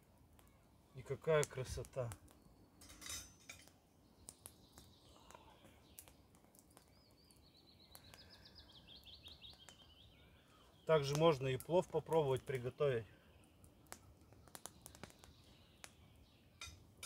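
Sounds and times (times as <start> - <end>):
bird singing: 2.2 - 16.9.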